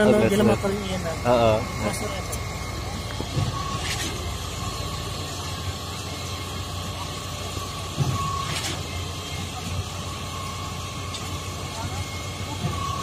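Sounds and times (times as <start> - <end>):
concrete pump engine hum: 0.0 - 13.0.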